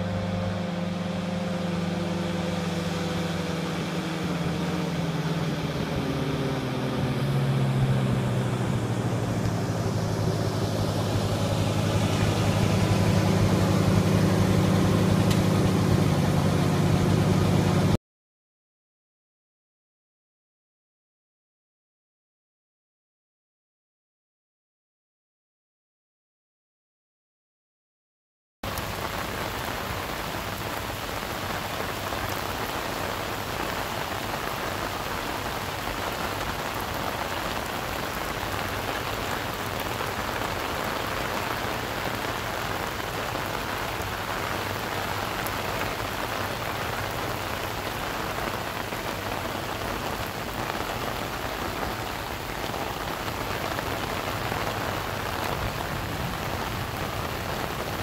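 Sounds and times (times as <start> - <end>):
pouring rain: 0.0 - 18.0, 28.6 - 58.0.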